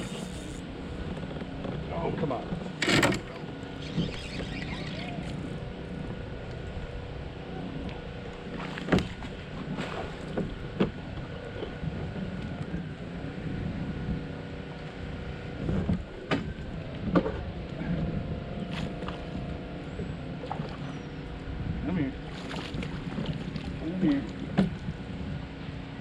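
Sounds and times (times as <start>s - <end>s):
motor hum: 0.0s - 26.0s.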